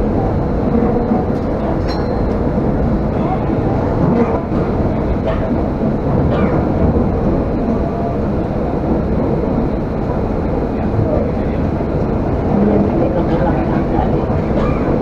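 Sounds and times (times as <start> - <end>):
train rumble from inside car: 0.0 - 15.0.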